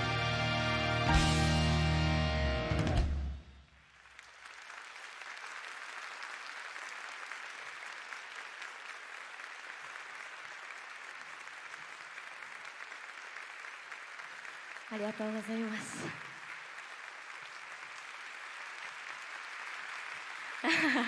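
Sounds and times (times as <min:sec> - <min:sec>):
large audience applauding: 0:00.0 - 0:21.0.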